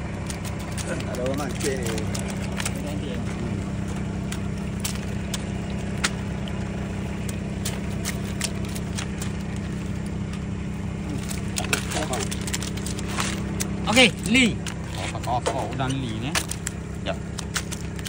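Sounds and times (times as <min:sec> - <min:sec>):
clicks and rustles of netting: 0:00.0 - 0:18.0
engine idling: 0:00.0 - 0:18.0.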